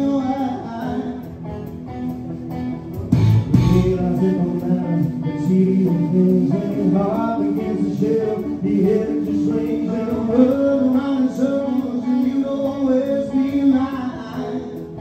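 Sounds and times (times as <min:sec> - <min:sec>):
man singing: 0:00.0 - 0:01.8, 0:03.5 - 0:15.0
acoustic guitar: 0:00.0 - 0:15.0
bass guitar: 0:00.0 - 0:15.0
drums: 0:00.0 - 0:15.0.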